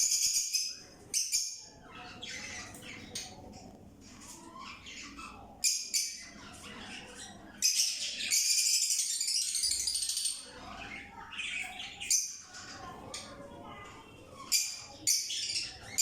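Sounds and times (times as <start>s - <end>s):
parrots chirping and squawking: 0.0s - 16.0s.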